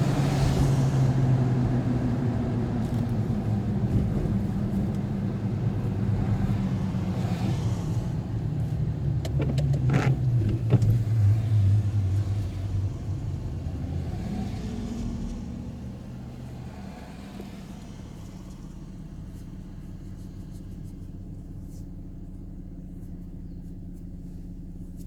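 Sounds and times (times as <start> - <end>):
car engine with road noise: 0.0 - 25.0.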